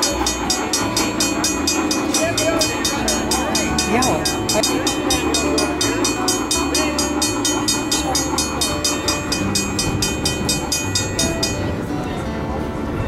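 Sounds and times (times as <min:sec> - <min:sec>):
toy train motor hum: 0:00.0 - 0:11.7
wheels clicking over rail joints: 0:00.0 - 0:12.2.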